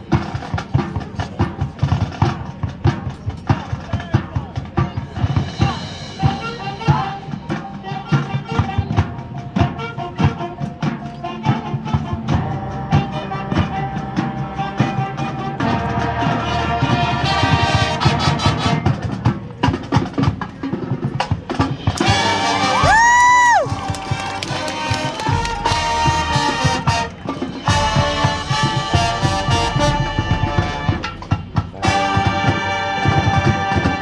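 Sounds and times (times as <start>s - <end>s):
marching band playing: 0.0s - 34.0s.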